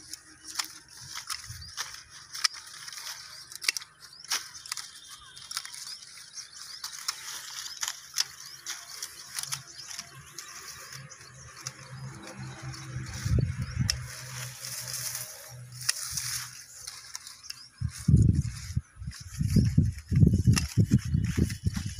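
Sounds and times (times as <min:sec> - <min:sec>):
pruning shears snipping stems: 0:00.0 - 0:21.9.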